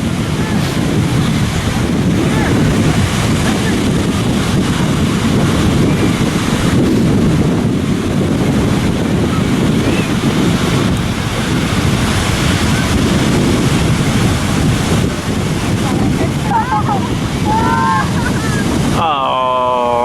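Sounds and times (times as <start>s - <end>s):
ocean surf washing: 0.0s - 20.0s
wind buffeting the microphone: 0.0s - 20.0s.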